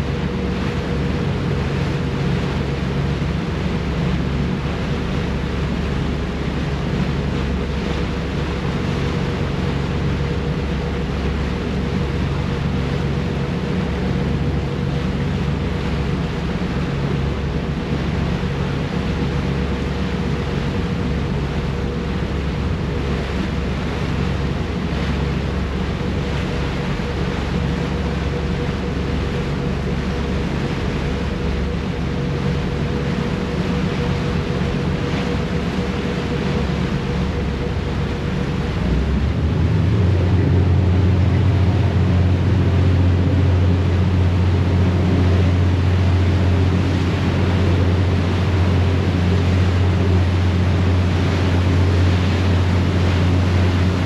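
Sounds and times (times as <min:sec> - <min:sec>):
ferry engines droning: 0:00.0 - 0:54.0
rush of boat wake: 0:00.0 - 0:54.0.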